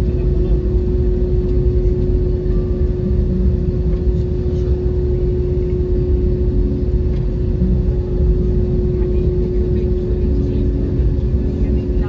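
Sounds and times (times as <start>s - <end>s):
jet engines humming: 0.0s - 12.0s.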